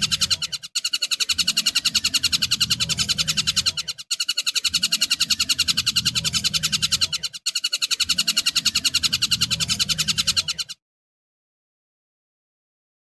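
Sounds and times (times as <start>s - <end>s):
kingfisher chattering call: 0.0s - 10.7s.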